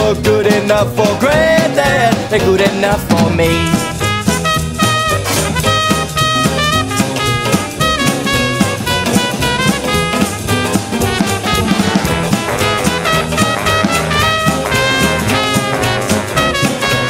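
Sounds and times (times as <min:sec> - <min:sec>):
swing music with brass and drums: 0:00.0 - 0:17.0.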